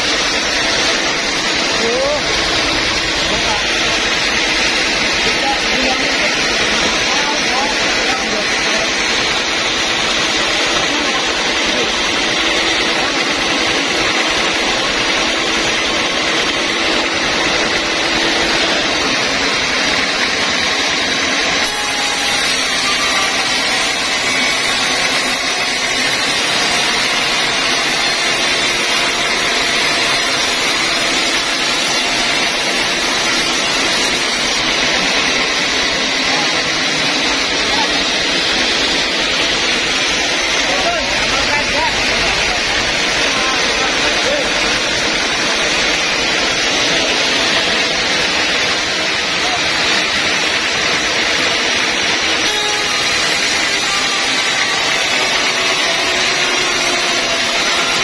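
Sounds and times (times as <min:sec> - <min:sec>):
band saw cutting timber: 0:00.0 - 0:58.0.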